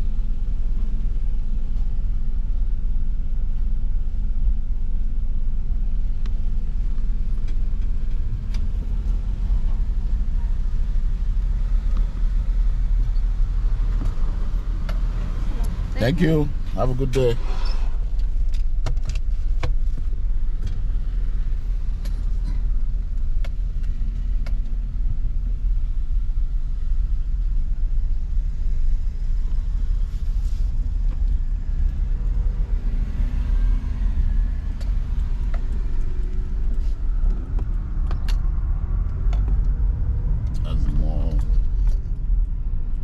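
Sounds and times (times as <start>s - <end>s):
car engine and road rumble: 0.0s - 43.0s.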